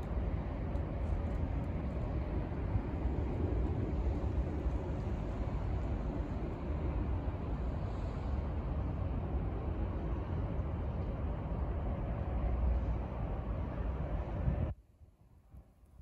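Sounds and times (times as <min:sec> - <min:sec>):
wind buffeting microphone: 0:00.0 - 0:14.7.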